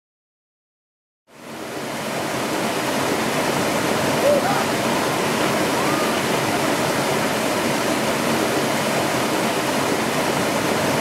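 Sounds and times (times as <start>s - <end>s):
river rapids rushing: 1.3s - 11.0s.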